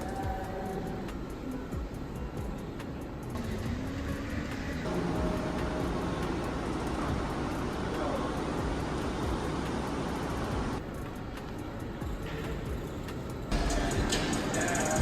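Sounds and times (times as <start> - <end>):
vehicle and road noise: 0.0 - 15.0.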